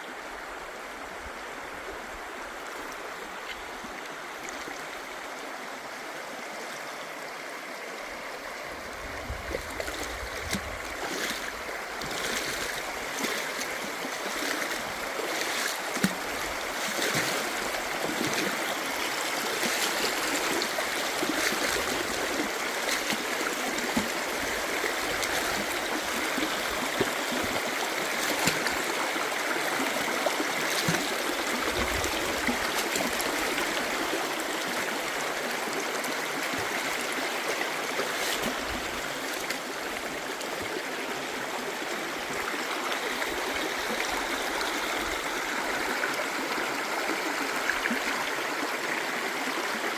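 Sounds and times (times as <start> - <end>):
river water over rocks: 0.0 - 49.9.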